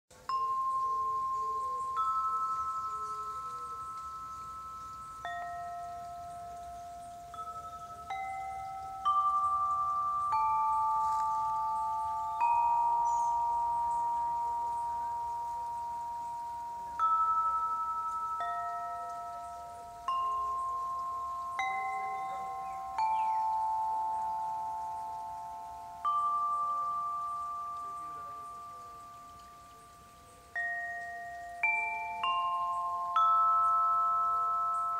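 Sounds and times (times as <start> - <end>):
crystal harp notes ringing: 0.1 - 34.9.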